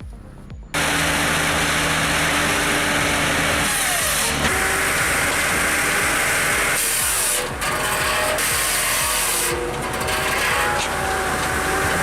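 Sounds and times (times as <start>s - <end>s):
machine engine running: 0.7s - 12.0s.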